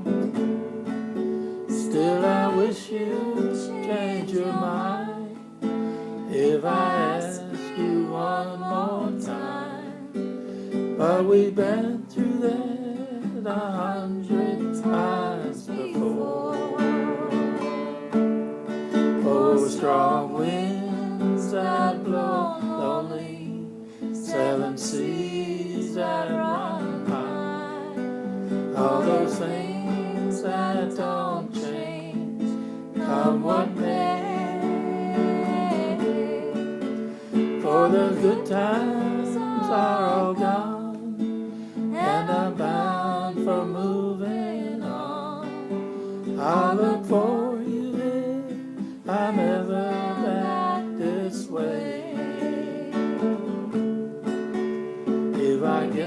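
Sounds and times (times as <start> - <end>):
person singing: 0.0 - 54.0, 55.3 - 56.0
acoustic guitar strumming: 0.0 - 56.0.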